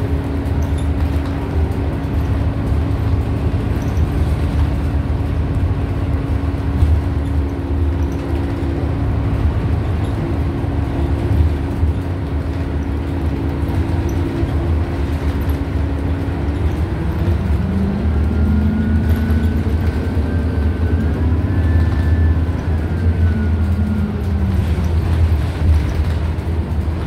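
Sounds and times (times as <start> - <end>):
bus drivetrain and road rumble: 0.0 - 27.0.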